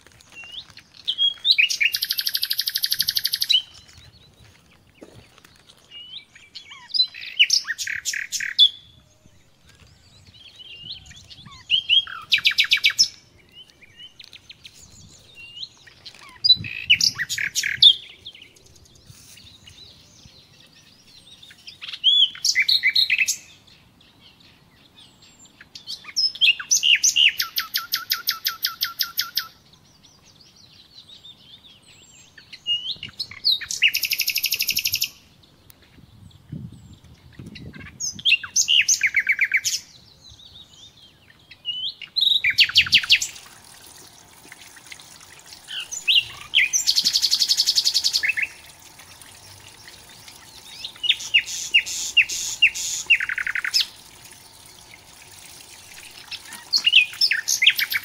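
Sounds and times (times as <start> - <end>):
songbird singing trills: 0.2 - 58.0.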